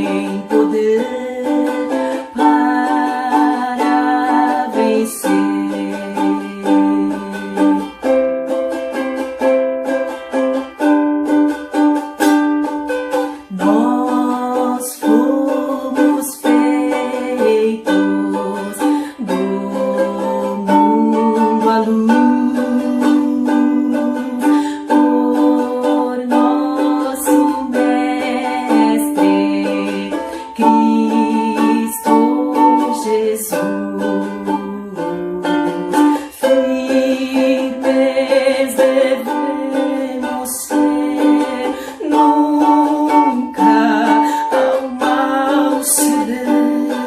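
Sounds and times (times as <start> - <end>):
ukulele strumming chords: 0.0 - 47.0.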